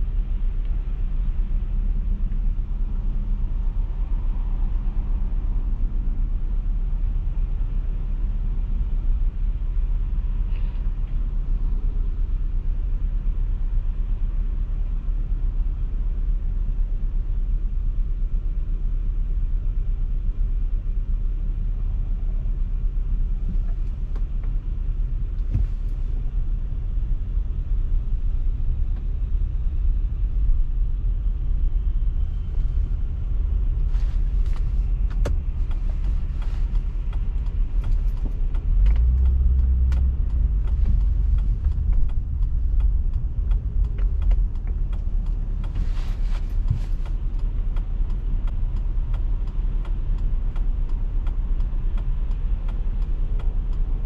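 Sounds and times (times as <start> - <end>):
car driving road noise: 0.0 - 54.0.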